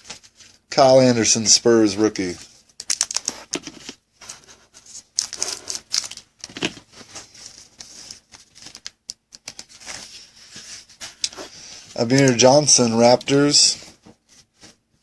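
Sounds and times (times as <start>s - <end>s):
trading cards sliding and flipping: 1.4s - 14.8s.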